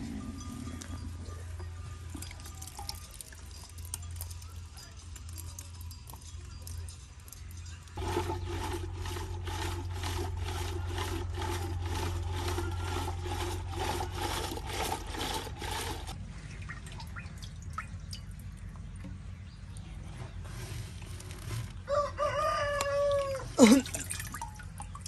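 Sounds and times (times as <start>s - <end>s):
rhythmic liquid sloshing: 0.0s - 21.9s, 23.2s - 25.0s.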